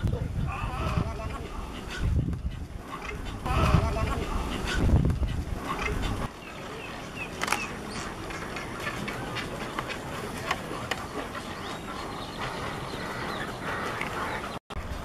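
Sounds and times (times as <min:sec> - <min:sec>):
chatter of nesting bird colony: 0:00.0 - 0:02.2, 0:02.8 - 0:15.0
birds clucking and clicking: 0:00.0 - 0:15.0.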